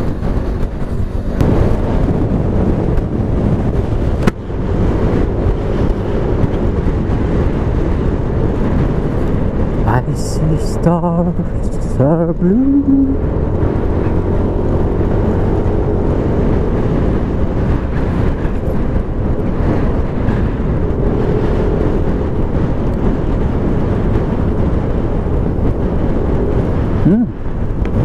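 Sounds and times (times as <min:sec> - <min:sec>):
wind rush on microphone: 0:00.0 - 0:28.0.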